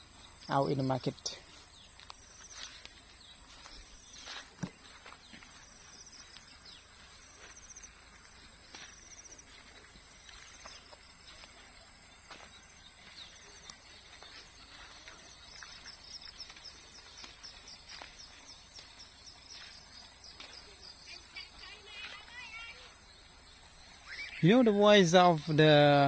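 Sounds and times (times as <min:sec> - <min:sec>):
bird chirps: 0:00.0 - 0:26.0
insect drone with trills: 0:00.0 - 0:26.0.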